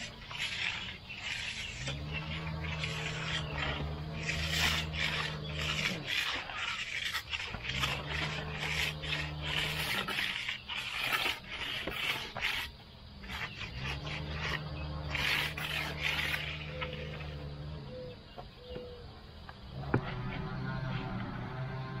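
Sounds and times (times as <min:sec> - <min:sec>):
steel tool scraping concrete: 0:00.0 - 0:18.0, 0:19.7 - 0:22.0.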